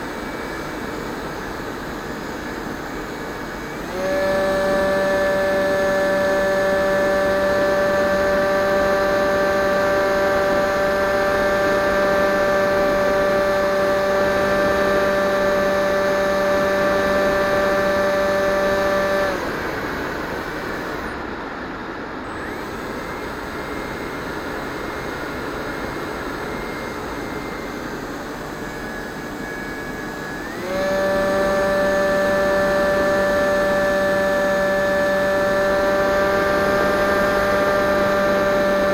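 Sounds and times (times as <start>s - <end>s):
electric motor and propeller whining: 0.0s - 38.9s.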